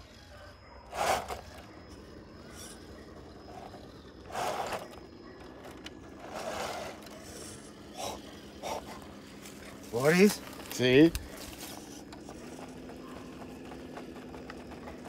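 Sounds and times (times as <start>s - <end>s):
tyres scraping on stone: 0.9s - 15.0s.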